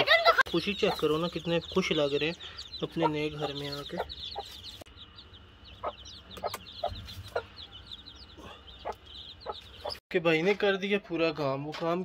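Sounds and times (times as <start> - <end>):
chicks peeping: 0.0 - 11.4.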